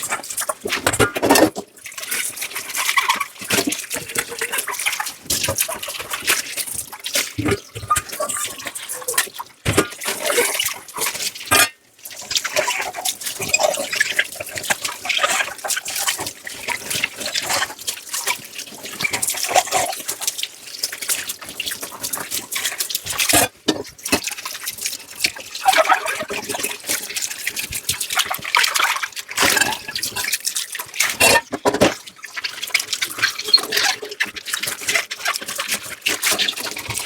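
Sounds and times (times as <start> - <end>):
tap water running in sink: 0.0 - 37.0.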